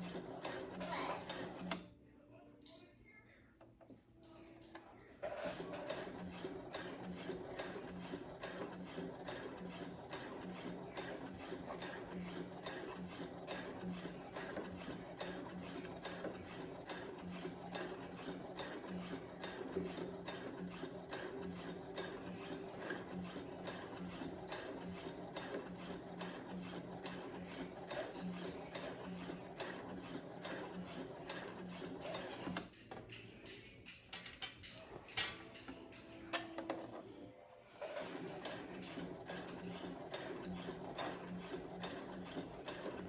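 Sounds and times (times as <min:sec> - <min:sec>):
sewing machine stitching: 0:00.0 - 0:01.9, 0:05.2 - 0:35.7, 0:37.7 - 0:43.0.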